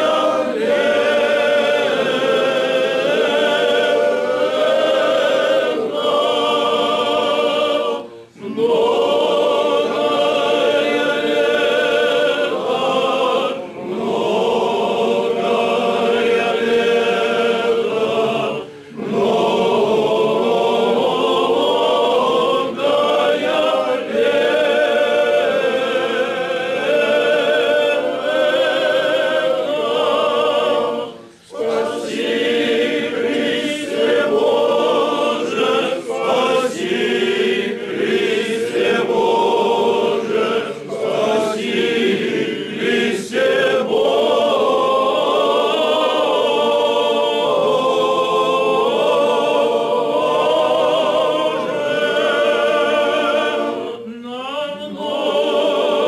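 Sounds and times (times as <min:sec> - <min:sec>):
male choir singing a hymn: 0:00.0 - 0:56.0.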